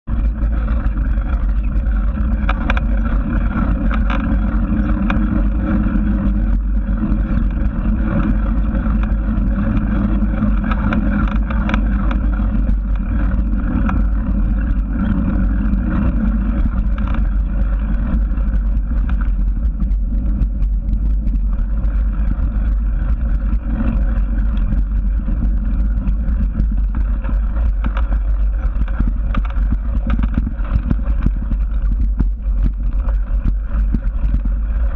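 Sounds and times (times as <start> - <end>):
faint ticking and rattling: 0.0 - 34.9
wind rumble on microphone: 0.0 - 34.9.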